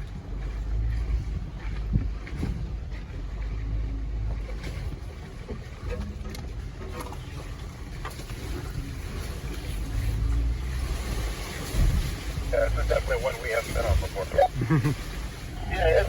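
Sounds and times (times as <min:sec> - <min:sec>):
vehicle engine rumbling at low speed: 0:00.0 - 0:16.0.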